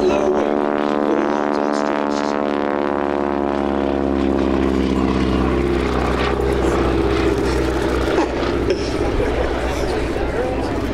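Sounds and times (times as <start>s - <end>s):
propeller plane flying past: 0.0s - 10.9s.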